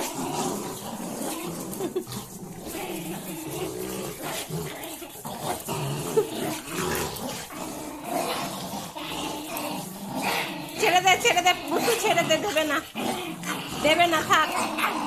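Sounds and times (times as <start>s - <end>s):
dogs growling: 0.0s - 15.0s.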